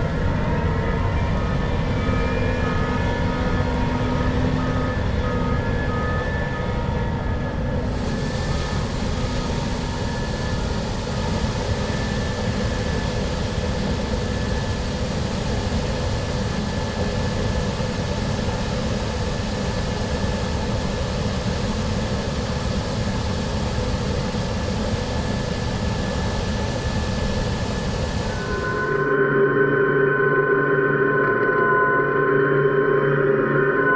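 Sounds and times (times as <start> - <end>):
faint steady whines: 0.0 - 33.9.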